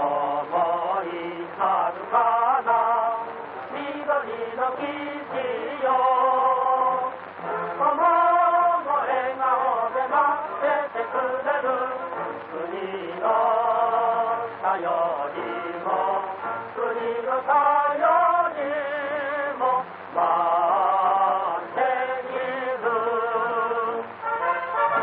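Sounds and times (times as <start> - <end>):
choir singing film-score music: 0.0 - 25.0.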